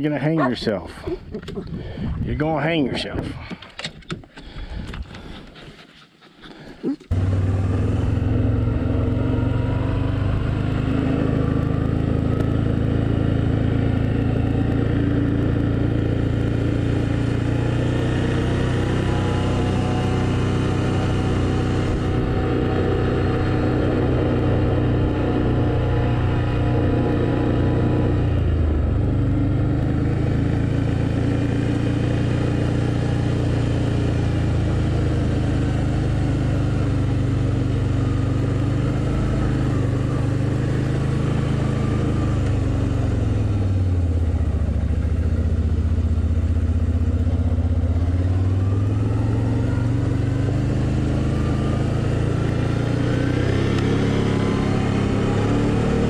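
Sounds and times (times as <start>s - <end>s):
atv engine running: 7.1s - 56.0s.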